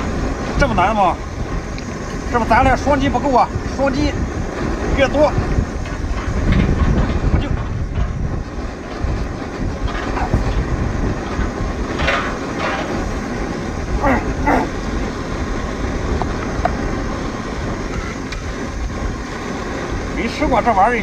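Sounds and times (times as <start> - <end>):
harbour background noise: 0.0 - 21.0
wind on the microphone: 0.0 - 21.0.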